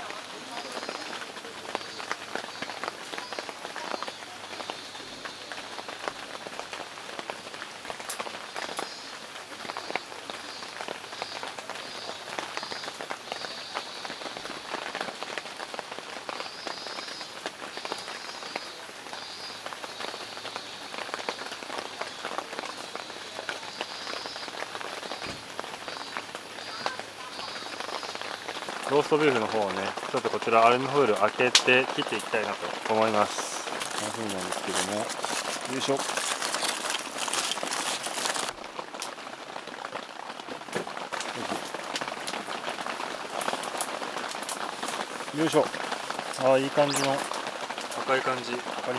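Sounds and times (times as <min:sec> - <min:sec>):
heavy rain on a tent: 0:00.0 - 0:48.9.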